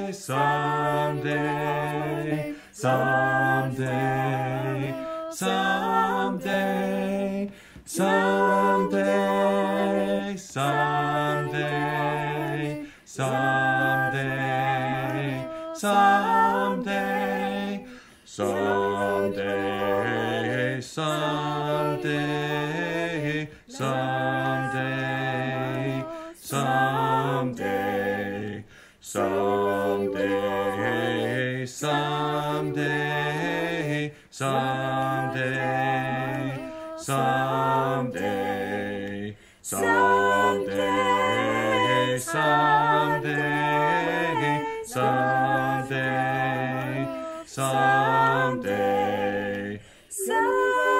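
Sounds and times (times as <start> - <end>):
vocal quartet singing in harmony: 0.0 - 50.9.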